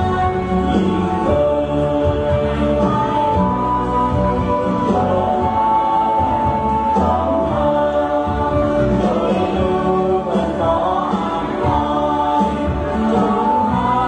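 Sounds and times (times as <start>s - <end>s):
dance song with singing voices: 0.0s - 14.0s.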